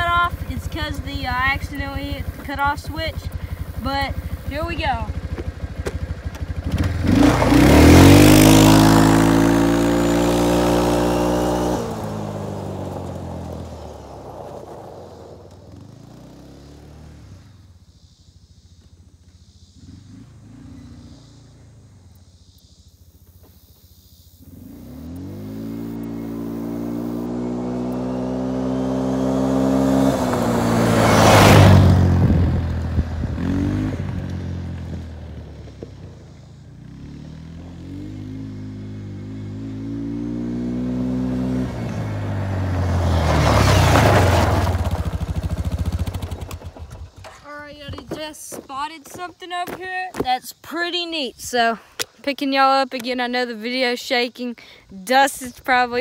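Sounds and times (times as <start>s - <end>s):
tyres on gravel: 0.0s - 16.7s, 23.2s - 38.4s, 40.7s - 56.0s
atv engine revving: 0.0s - 52.2s.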